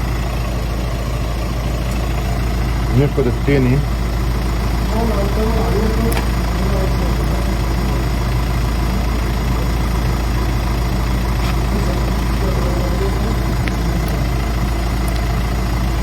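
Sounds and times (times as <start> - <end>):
low engine-like drone: 0.0 - 16.0.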